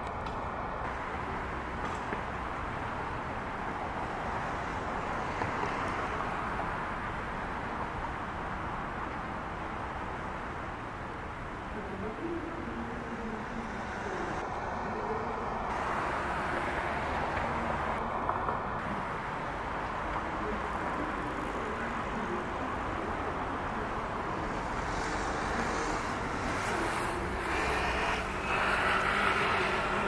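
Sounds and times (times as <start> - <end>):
road traffic passing cars: 0.0 - 30.0.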